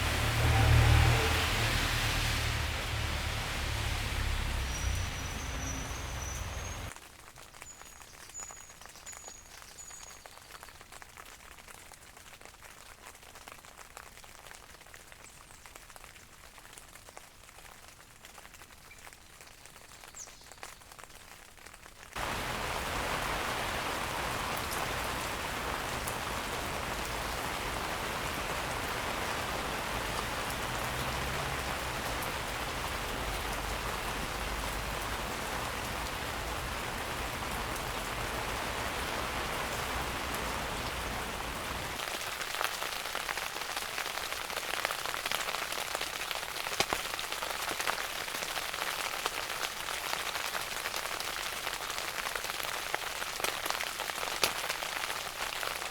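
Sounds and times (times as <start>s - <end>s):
rain falling: 0.0s - 8.4s, 10.9s - 55.9s.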